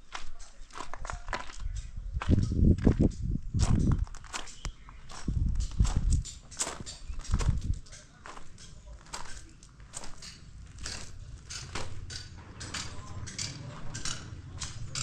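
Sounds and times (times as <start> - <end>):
footsteps crunching on gritty ground: 0.0 - 15.0.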